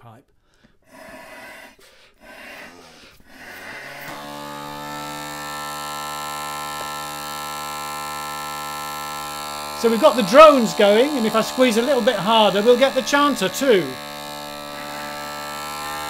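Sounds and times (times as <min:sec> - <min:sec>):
bagpipe drone buzzing: 0:02.6 - 0:16.0.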